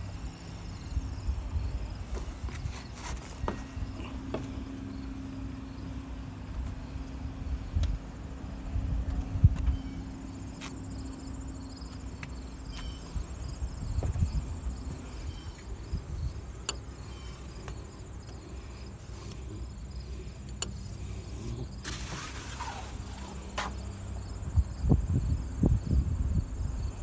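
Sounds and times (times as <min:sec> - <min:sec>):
insects chirping: 0:00.0 - 0:06.2, 0:09.6 - 0:27.0
low background rumble: 0:00.0 - 0:27.0.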